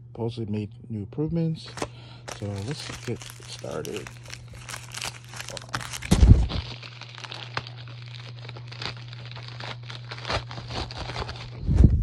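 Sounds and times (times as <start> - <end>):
steady low hum: 0.0 - 12.0
paper packaging crinkling: 1.7 - 11.7.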